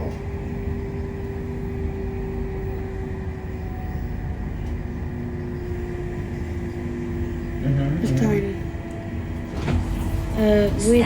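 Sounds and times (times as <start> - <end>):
electrical hum: 0.0 - 11.0
train low rumble: 0.0 - 11.0.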